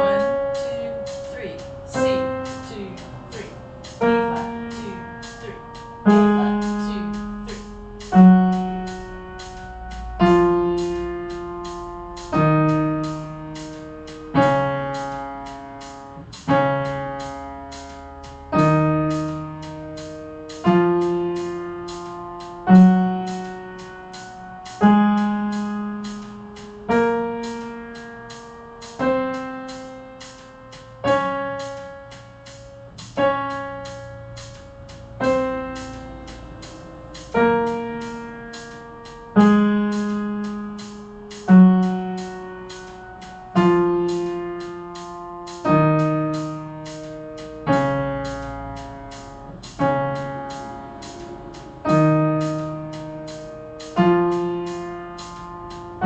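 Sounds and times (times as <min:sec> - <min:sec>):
piano chords ringing: 0:00.0 - 0:56.0.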